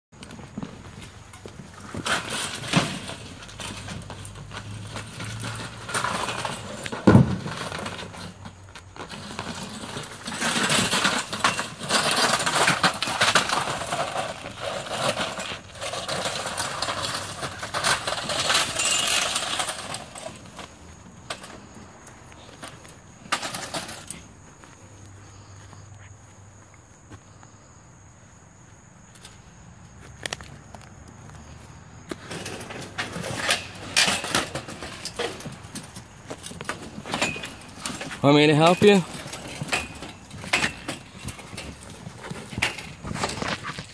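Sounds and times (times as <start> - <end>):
net and poles scraping and clattering: 0.3 - 24.4, 32.1 - 43.9.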